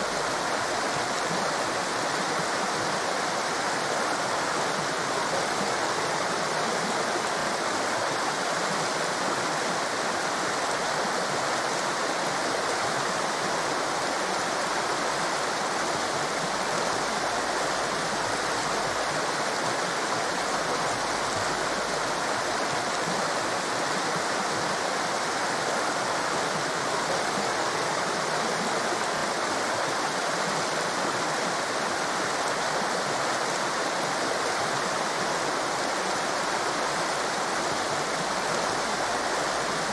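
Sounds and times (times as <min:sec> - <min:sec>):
roar of rushing water: 0:00.0 - 0:39.9.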